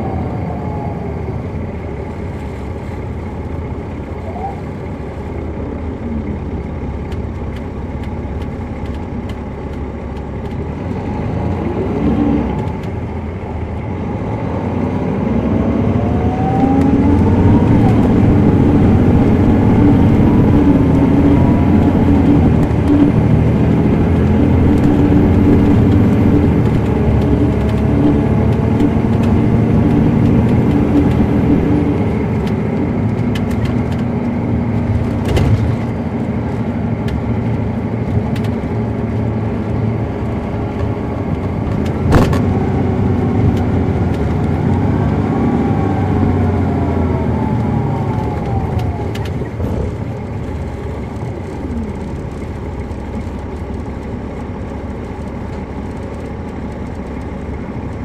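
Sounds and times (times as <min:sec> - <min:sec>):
diesel bus engine accelerating: 0:00.0 - 0:58.0
drivetrain whine: 0:00.0 - 0:58.0.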